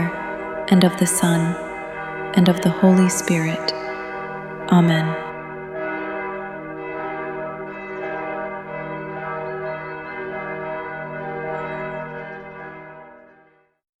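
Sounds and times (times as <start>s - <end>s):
church bells ringing: 0.0s - 13.8s.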